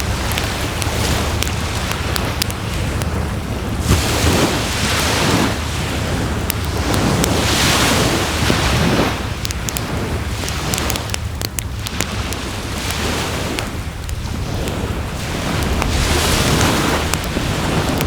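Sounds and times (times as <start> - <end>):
campfire crackling and popping: 0.0 - 18.0
low rumble of wind: 0.0 - 18.0
waves washing onto shore: 0.0 - 18.0.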